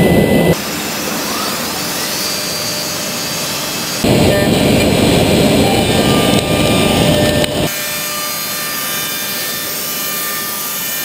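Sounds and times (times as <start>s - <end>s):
steady machine hum: 0.0s - 8.9s
router cutting wood panel: 1.0s - 11.0s.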